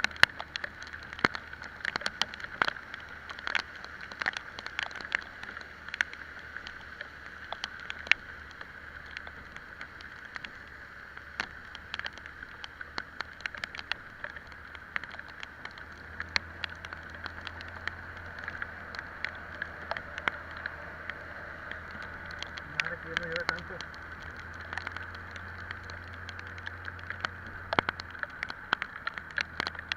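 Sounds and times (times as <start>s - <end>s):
raindrops ticking on camera: 0.0s - 29.9s
scooter riding in rain hiss: 0.0s - 29.9s.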